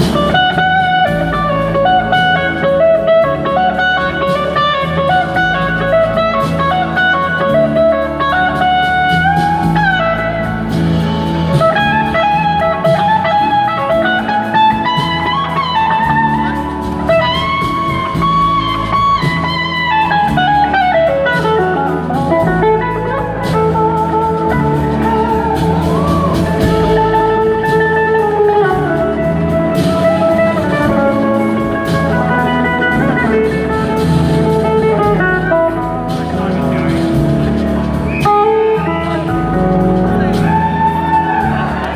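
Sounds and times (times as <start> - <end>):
bass guitar: 0.0 - 41.9
drums: 0.0 - 41.9
electric guitar lead: 0.0 - 41.9.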